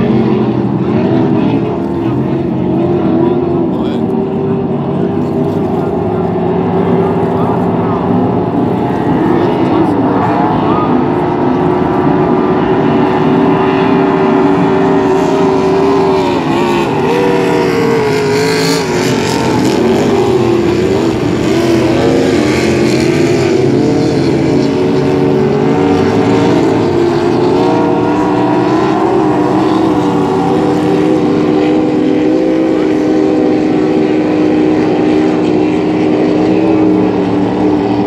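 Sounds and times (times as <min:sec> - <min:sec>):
racing powerboat engines droning: 0:00.0 - 0:38.0.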